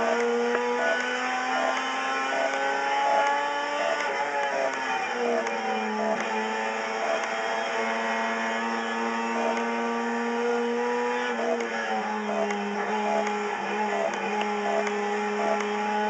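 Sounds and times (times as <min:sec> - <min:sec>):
race car engine high-pitched buzz: 0:00.0 - 0:16.0.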